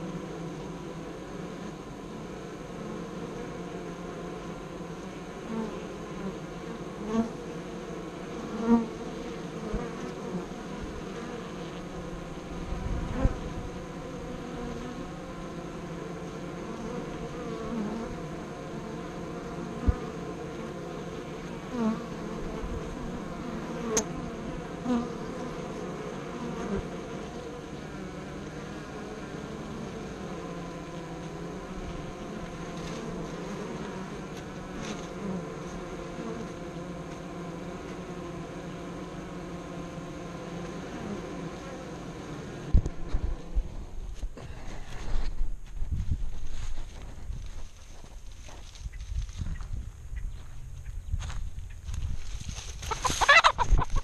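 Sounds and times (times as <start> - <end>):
bees humming: 0.0 - 45.4, 52.6 - 54.0
single bees buzzing past: 0.0 - 49.7, 50.6 - 54.0.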